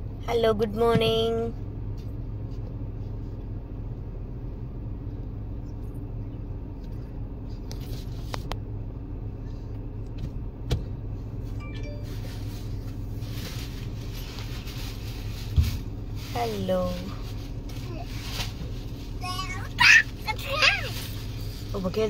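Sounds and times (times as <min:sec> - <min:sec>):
car interior rumble: 0:00.0 - 0:22.0.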